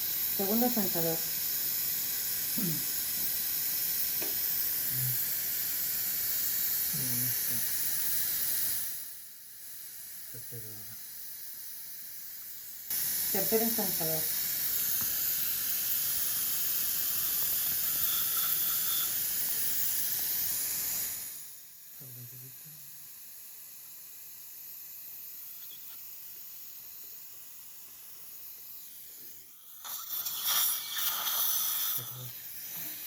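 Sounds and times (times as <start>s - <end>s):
dental suction hissing: 0.0s - 33.0s.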